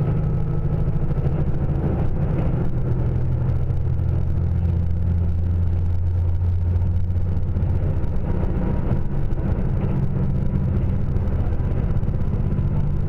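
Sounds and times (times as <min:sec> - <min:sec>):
train engine drone: 0:00.0 - 0:13.0.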